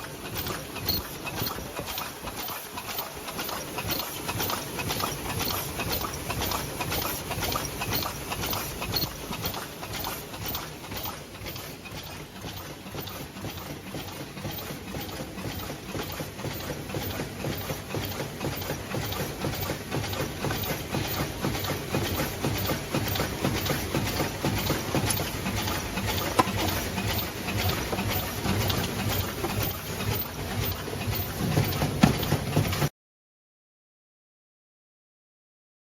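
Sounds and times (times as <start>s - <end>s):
paper cup machine clattering: 0.0s - 32.9s
regular machine clacking: 0.0s - 32.9s.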